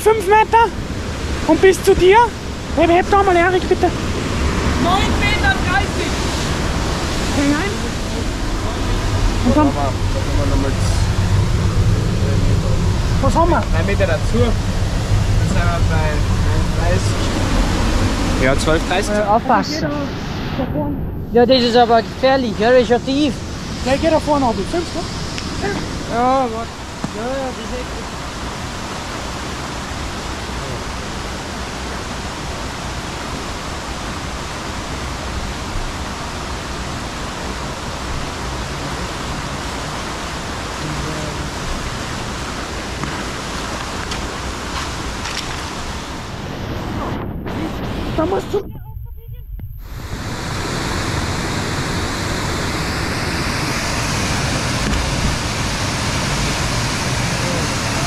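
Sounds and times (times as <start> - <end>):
stream rushing over rocks: 0.0 - 20.6, 21.3 - 48.6, 49.8 - 58.0
waterfall roaring: 0.0 - 48.7, 49.8 - 58.0.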